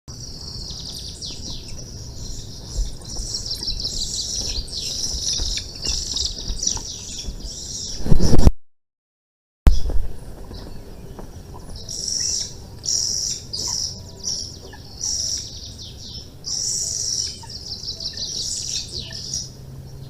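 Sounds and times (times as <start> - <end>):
small birds chirping: 0.1 - 8.1, 9.7 - 20.0.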